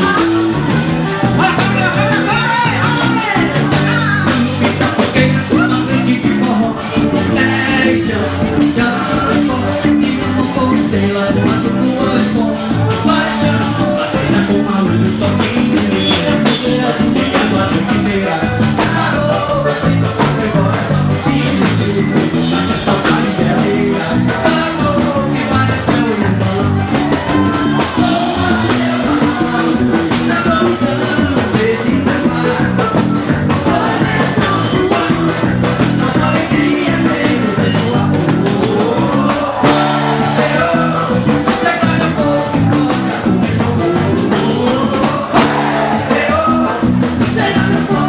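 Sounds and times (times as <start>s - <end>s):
band playing with singing: 0.0s - 48.0s.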